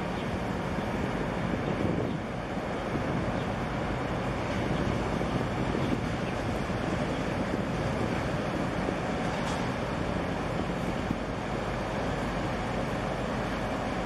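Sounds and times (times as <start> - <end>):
harbour water: 0.0 - 14.0
wind on microphone: 0.0 - 14.0.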